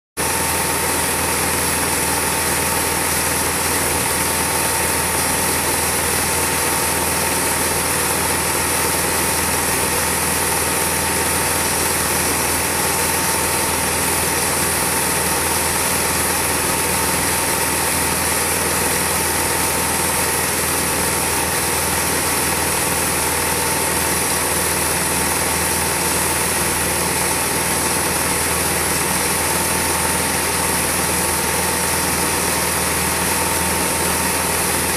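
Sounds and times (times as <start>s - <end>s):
film projector whirring: 0.2s - 34.9s.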